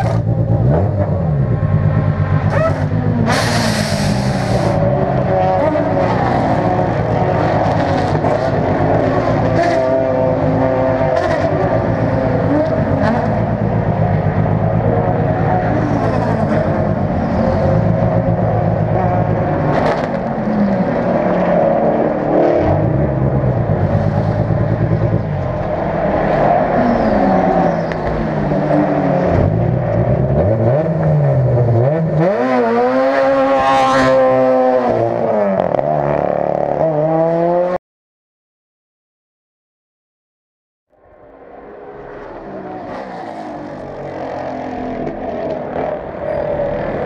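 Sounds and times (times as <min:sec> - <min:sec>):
race car engines revving: 0:00.0 - 0:37.8, 0:41.2 - 0:47.0.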